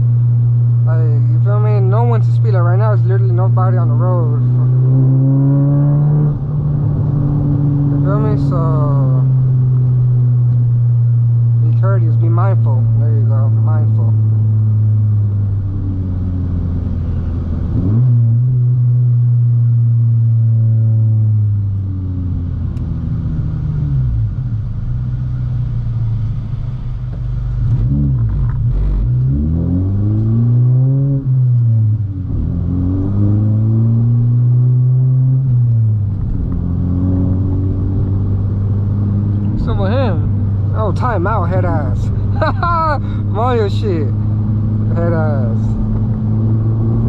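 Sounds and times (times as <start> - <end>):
car engine revving through gears: 1.5 - 11.9, 12.7 - 24.5, 26.2 - 47.0.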